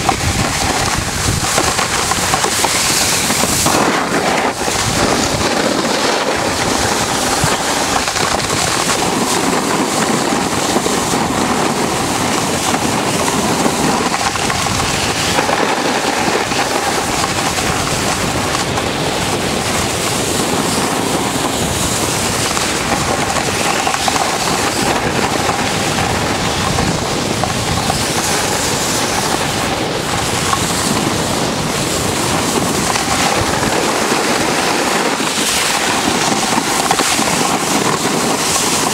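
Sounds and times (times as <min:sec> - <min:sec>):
snowboard scraping over snow: 0:00.0 - 0:38.9
wind noise on microphone: 0:00.0 - 0:38.9.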